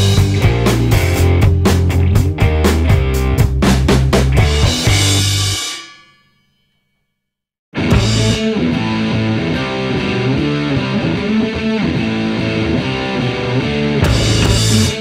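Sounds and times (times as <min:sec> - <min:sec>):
rock music with electric guitar: 0:00.0 - 0:05.6, 0:07.8 - 0:15.0.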